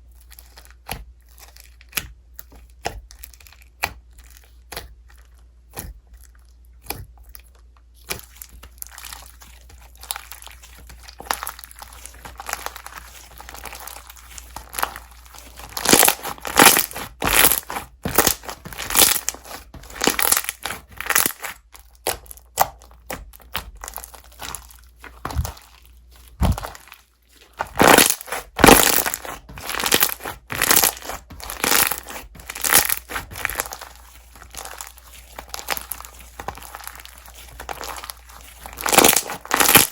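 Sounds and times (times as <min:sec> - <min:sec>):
slime squishing and popping: 0:00.3 - 0:39.9.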